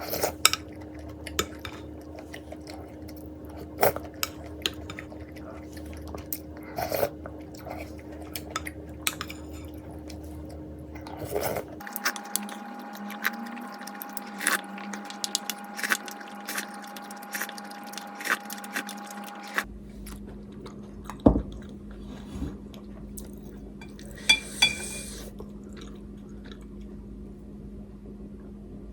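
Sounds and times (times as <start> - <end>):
chewing noodles: 0.0 - 27.0
faint steady hum: 0.0 - 28.9.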